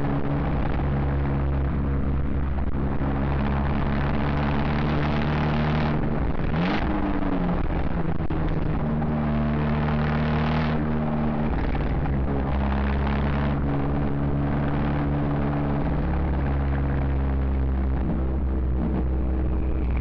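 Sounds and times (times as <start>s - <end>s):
distorted car engine and exhaust: 0.0s - 20.0s.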